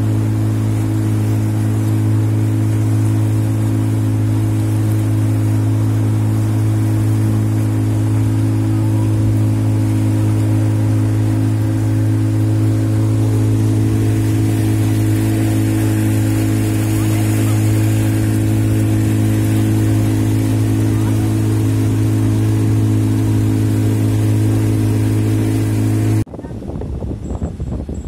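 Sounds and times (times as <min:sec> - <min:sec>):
motorboat engine droning: 0:00.0 - 0:28.0
rushing water and wind: 0:00.0 - 0:28.0.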